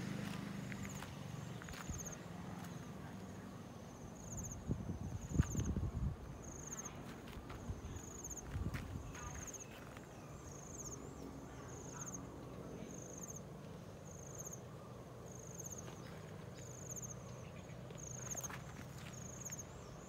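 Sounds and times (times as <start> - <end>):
faint low outdoor rumble: 0.0 - 20.0
insect chirping: 0.4 - 3.0, 3.6 - 12.3, 12.9 - 20.0.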